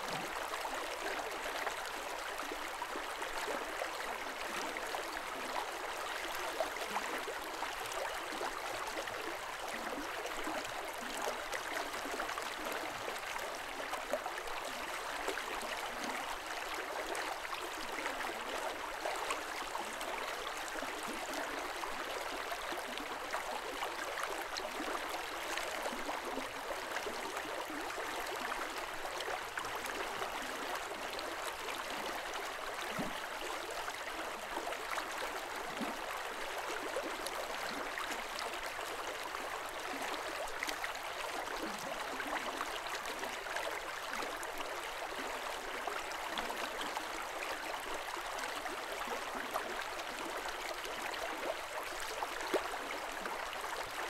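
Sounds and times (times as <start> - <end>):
mountain stream flowing: 0.0 - 54.0.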